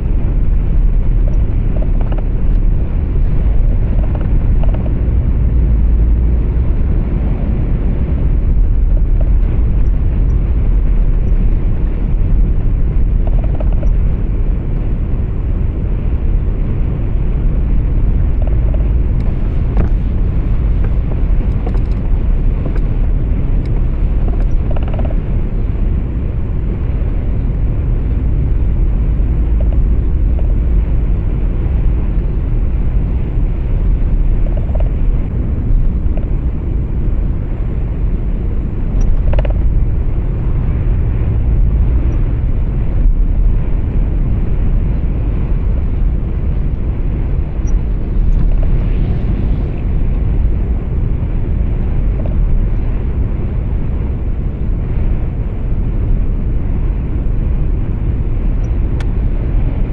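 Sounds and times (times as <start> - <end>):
road noise inside cab: 0.0 - 59.9
truck engine rumble: 0.0 - 59.9.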